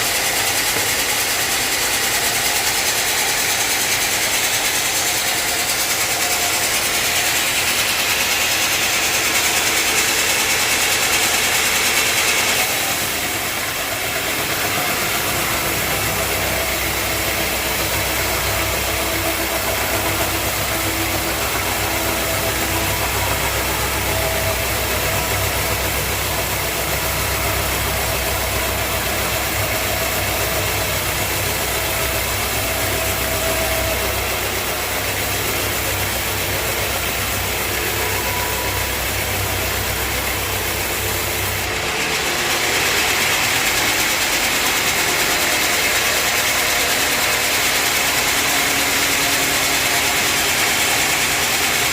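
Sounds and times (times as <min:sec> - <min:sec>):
loud bright machine noise: 0:00.0 - 0:51.9
sawmill machinery humming: 0:00.0 - 0:51.9.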